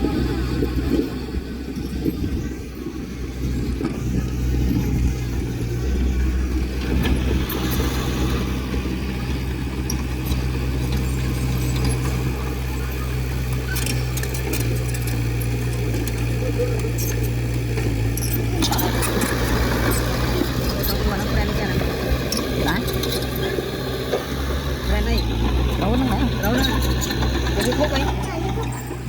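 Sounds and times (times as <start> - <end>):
heavy machine diesel engine running: 0.0 - 29.0.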